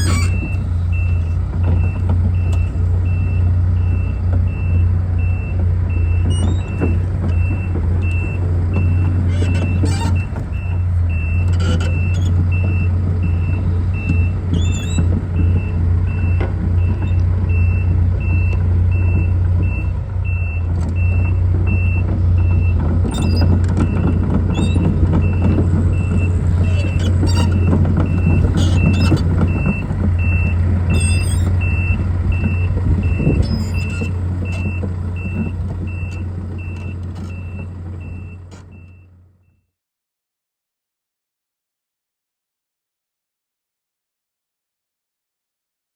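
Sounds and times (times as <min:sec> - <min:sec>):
travel alarm beeping: 0:00.0 - 0:39.1
diesel engine running: 0:00.0 - 0:39.5.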